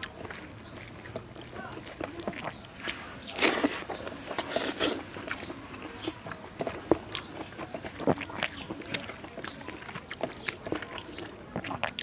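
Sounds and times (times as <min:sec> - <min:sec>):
loud bites or slurps: 0:00.0 - 0:12.0
sharp mouth clicks: 0:00.0 - 0:12.0
wet chewing: 0:00.0 - 0:12.0.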